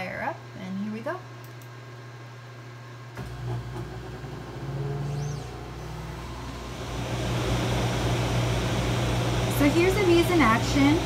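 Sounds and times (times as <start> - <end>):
low machine hum: 0.0 - 11.0
rushing fan and air noise: 0.0 - 11.0.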